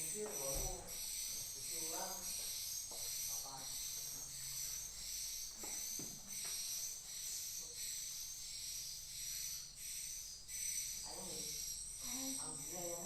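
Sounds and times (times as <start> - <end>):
faint low hum: 0.0 - 13.0
swiftlets twittering: 0.0 - 13.0.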